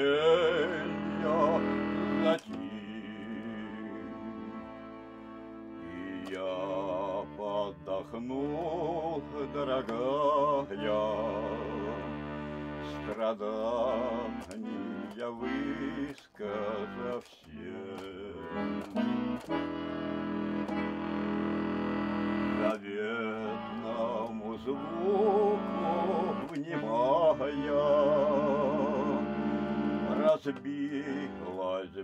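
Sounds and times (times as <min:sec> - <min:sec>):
button accordion slow melody: 0:00.0 - 0:32.0.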